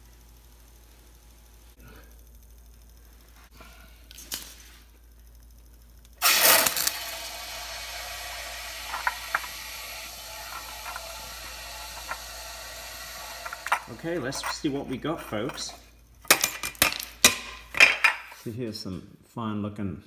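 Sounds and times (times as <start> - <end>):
steady hiss: 0.0 - 16.2.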